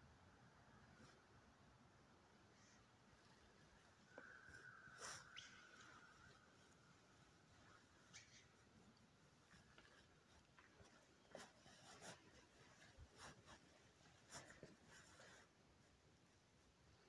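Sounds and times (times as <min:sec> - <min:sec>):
faint scratching and rustling: 0:00.7 - 0:01.4, 0:02.3 - 0:17.0.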